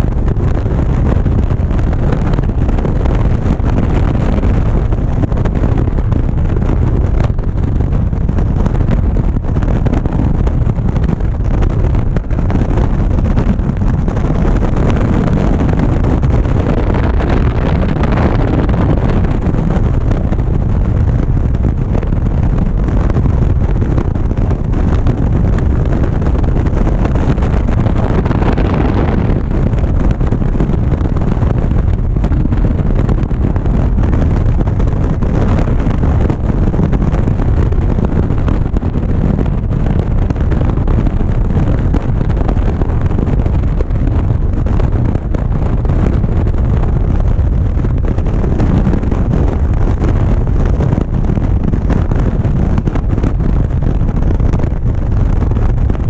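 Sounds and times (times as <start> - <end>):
road noise: 0.0 - 56.0
wind rushing over microphone: 0.0 - 56.0.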